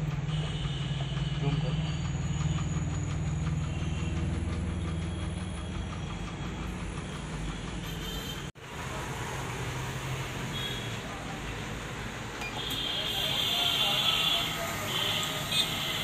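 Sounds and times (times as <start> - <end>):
tea vending machine humming: 0.0 - 16.0.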